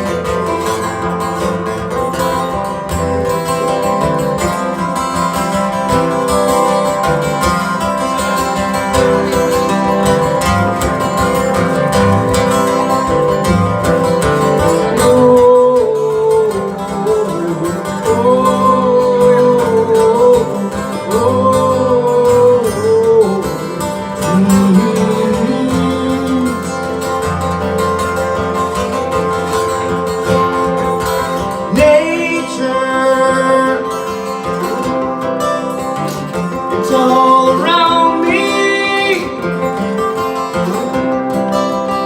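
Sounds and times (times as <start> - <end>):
live band playing: 0.0 - 42.0
sliding lead guitar melody: 0.0 - 42.0.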